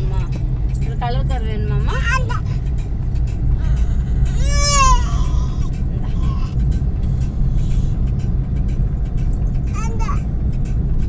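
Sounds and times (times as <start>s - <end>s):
vehicle rumbling on road: 0.0s - 11.0s.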